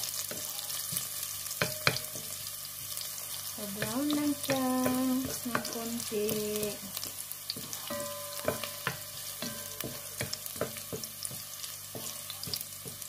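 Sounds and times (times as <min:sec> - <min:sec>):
garlic sizzling in oil: 0:00.0 - 0:13.0
wooden spatula knocking pot: 0:00.3 - 0:02.3, 0:03.7 - 0:06.8, 0:07.5 - 0:13.0.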